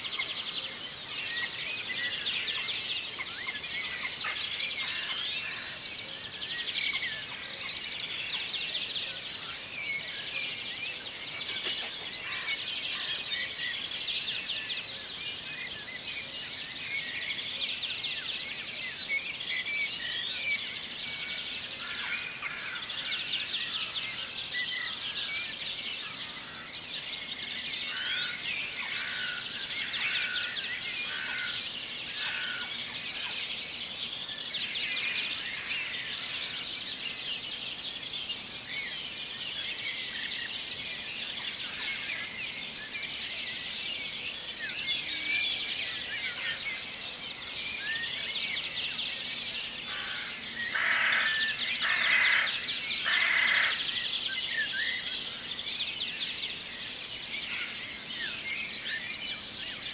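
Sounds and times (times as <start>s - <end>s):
many birds singing: 0.0s - 59.9s.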